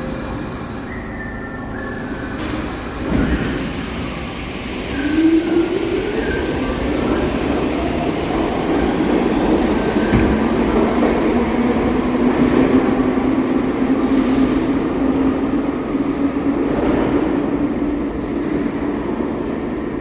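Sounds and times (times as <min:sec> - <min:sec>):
subway train wheels rumbling: 0:00.0 - 0:20.0.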